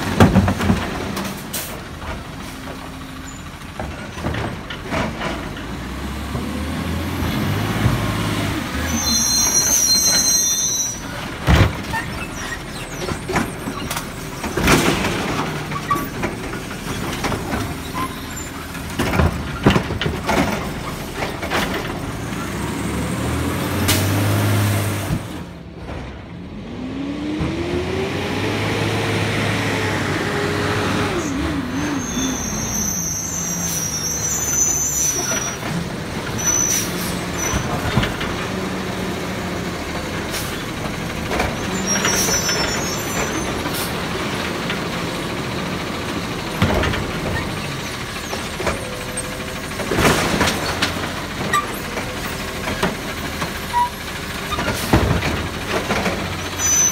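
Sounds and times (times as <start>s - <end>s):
truck engine revving and idling: 0.0s - 9.7s, 11.1s - 56.9s.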